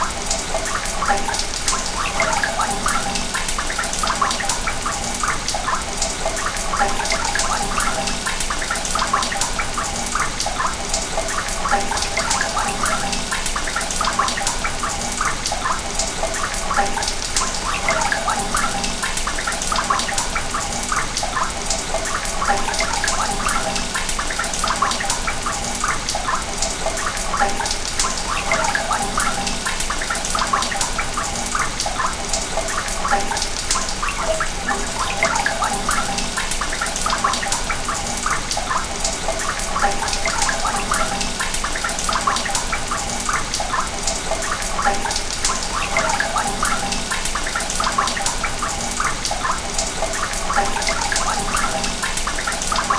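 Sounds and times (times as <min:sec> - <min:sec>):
water rushing through pipe: 0:00.0 - 0:52.9.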